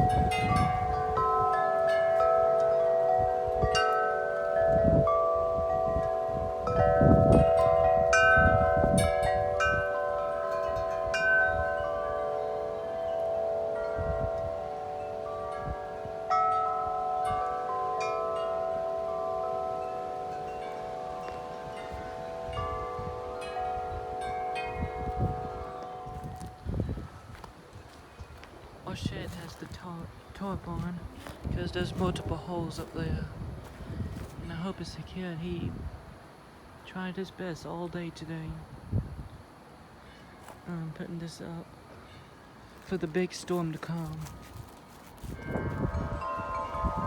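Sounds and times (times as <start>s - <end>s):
wind chimes ringing: 0.0s - 35.4s, 41.2s - 47.0s
wind rumbling on microphone: 0.0s - 36.6s, 38.3s - 39.6s, 43.2s - 47.0s.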